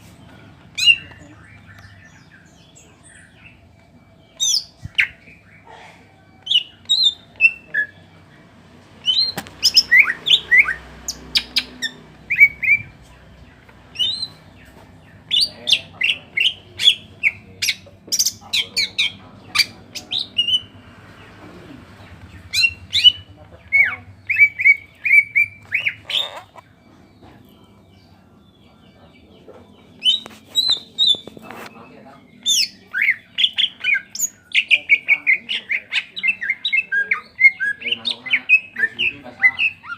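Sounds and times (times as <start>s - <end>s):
bird singing rapid sharp notes: 0.0s - 5.7s, 6.3s - 39.9s.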